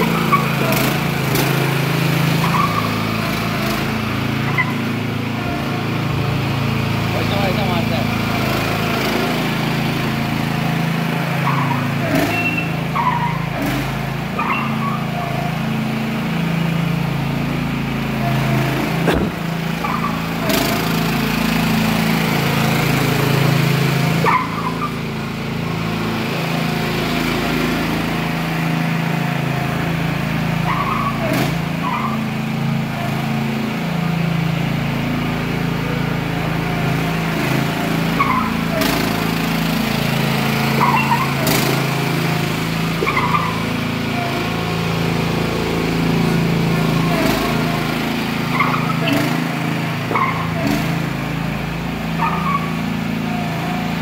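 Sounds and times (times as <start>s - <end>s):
riding lawn mower engine: 0.0s - 54.0s.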